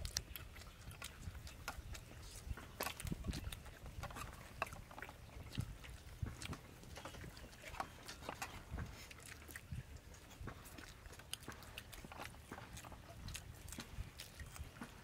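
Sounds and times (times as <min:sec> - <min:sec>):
people chewing and lip-smacking: 0:00.0 - 0:15.0.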